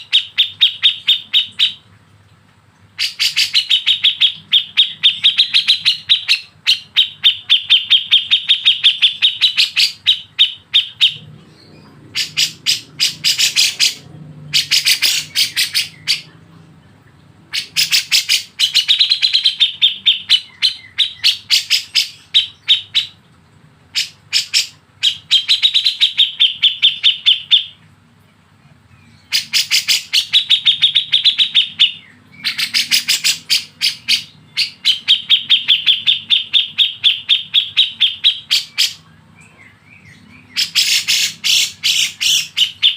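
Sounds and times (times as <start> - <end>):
songbird chirping: 2.7 - 42.9.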